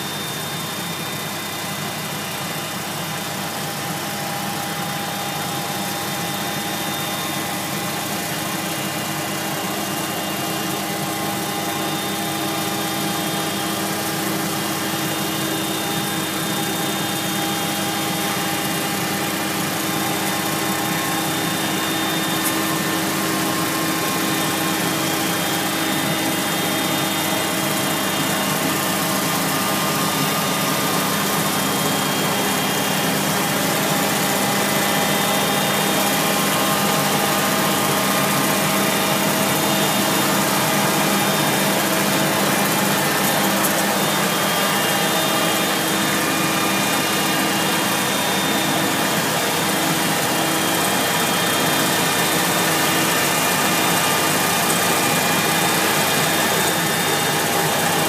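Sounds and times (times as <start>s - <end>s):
vacuum machine engine humming: 0.0s - 58.0s.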